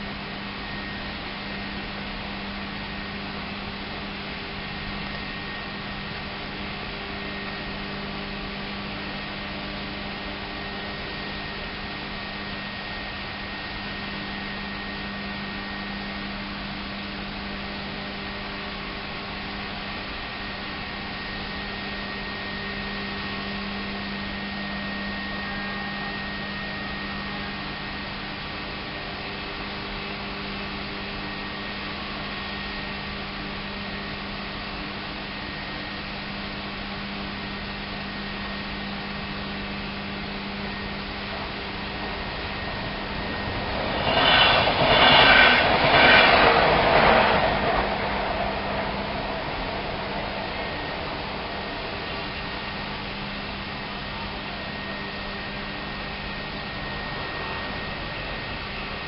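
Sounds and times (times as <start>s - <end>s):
low machinery hum: 0.0s - 59.0s.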